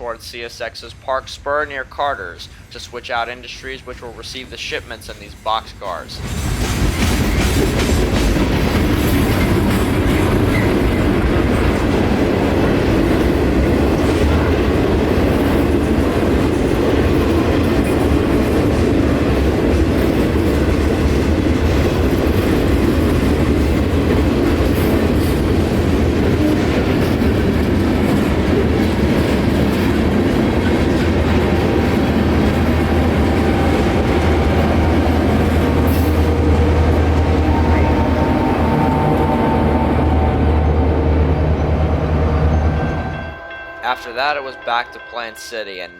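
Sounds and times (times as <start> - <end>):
freight train passing: 0.0 - 45.9.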